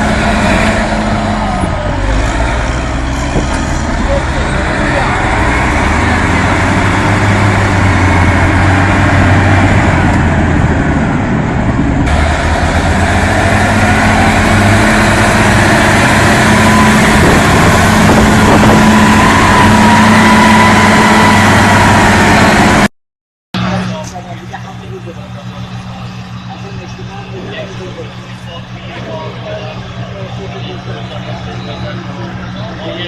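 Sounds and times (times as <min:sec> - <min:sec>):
large vehicle engine running: 0:00.0 - 0:22.9, 0:23.6 - 0:33.0.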